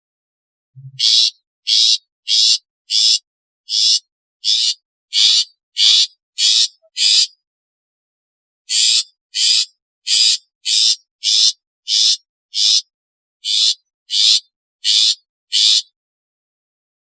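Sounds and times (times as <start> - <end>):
bird giving harsh calls: 0.8 - 7.4, 8.7 - 15.9.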